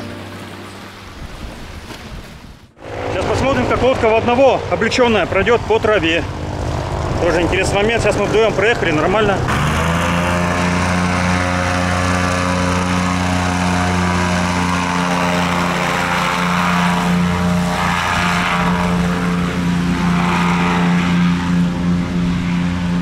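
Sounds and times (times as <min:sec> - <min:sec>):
airboat engine and propeller: 0:00.0 - 0:23.0.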